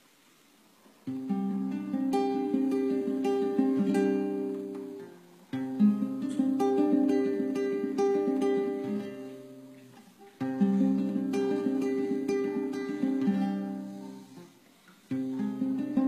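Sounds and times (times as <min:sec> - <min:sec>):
nylon-string guitar playing chords: 0:01.0 - 0:16.0.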